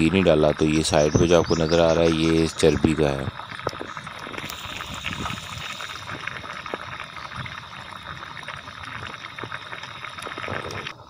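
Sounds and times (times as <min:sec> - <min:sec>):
broth bubbling in metal pot: 0:00.0 - 0:11.0.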